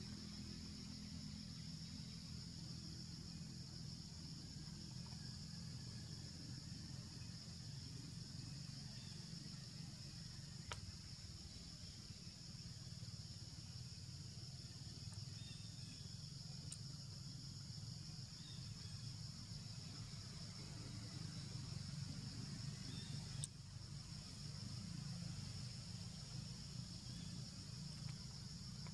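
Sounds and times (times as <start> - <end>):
insect chorus drone: 0.0 - 28.9.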